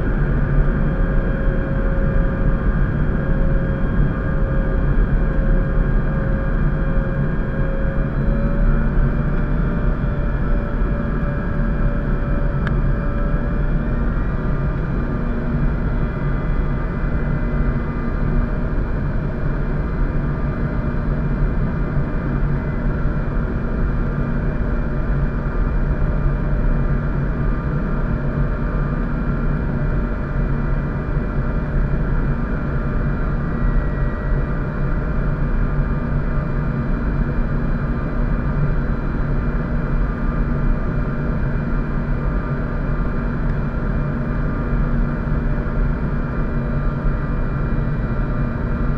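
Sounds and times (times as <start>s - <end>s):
jet engine drone: 0.0s - 48.9s.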